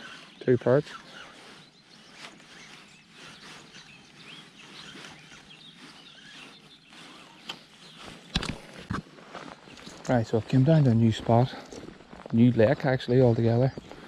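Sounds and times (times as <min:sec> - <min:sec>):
small bird calls: 0:00.0 - 0:14.0.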